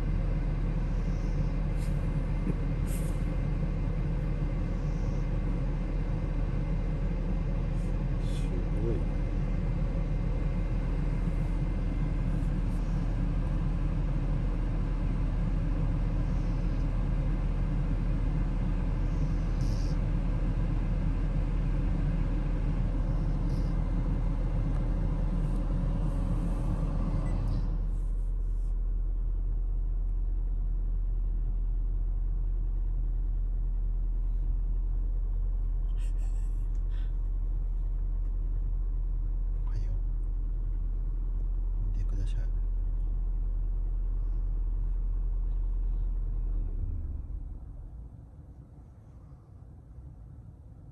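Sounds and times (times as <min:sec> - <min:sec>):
constant low hum: 0:00.0 - 0:50.9
low rumble: 0:00.0 - 0:50.9.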